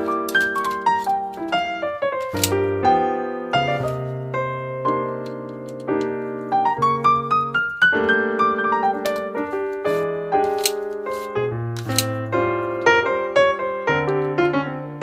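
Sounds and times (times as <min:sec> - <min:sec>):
piano music with quick runs: 0:00.0 - 0:15.0.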